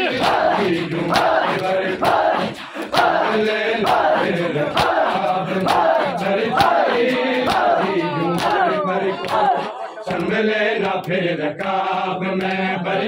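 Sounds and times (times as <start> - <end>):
crowd of men chanting: 0.0 - 13.0
hands slapping bare chests: 0.2 - 11.8.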